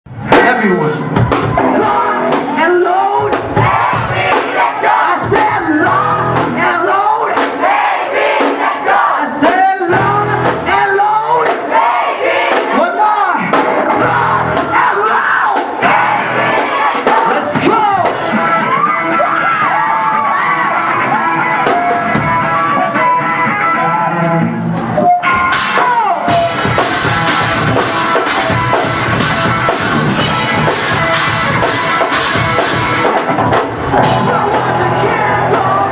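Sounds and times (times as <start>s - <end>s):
steady beat of hits: 0.1s - 18.5s, 21.6s - 35.9s
crowd yelling and singing along: 0.1s - 35.9s
live rock band: 0.1s - 35.9s.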